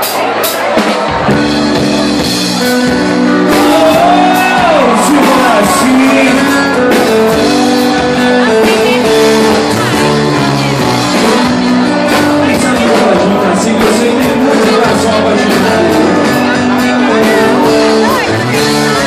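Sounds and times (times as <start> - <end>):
guitar: 0.0 - 19.0
live band playing: 0.0 - 19.0
person singing: 2.8 - 19.0.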